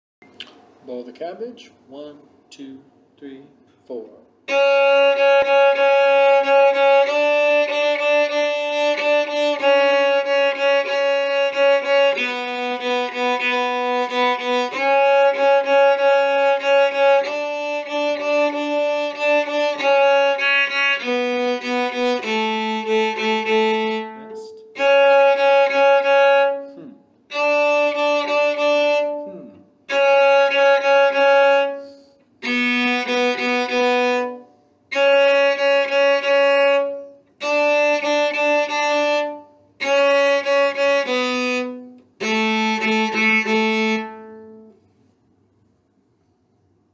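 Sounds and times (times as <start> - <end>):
solo cello bowed: 4.5 - 44.9.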